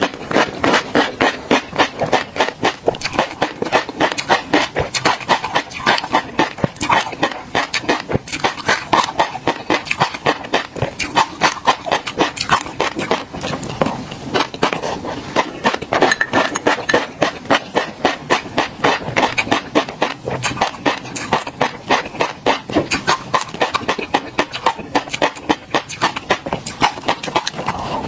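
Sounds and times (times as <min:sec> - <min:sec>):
chewing popping fish roe: 0:00.0 - 0:28.0.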